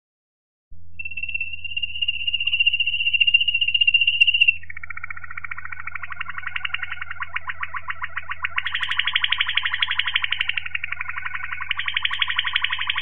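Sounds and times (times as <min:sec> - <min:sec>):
canary trilling: 0:01.1 - 0:13.0.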